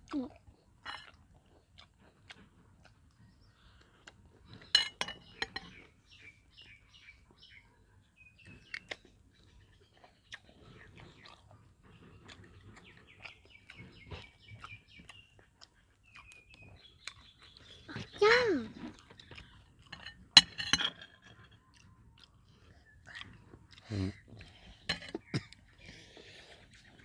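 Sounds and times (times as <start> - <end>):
birds chirping: 2.4 - 27.0.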